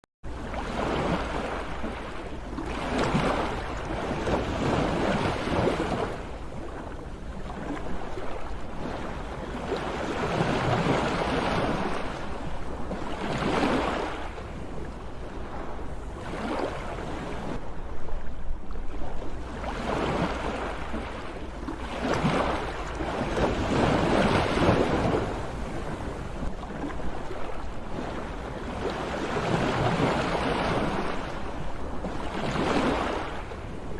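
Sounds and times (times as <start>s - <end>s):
sea waves breaking: 0.3s - 33.9s.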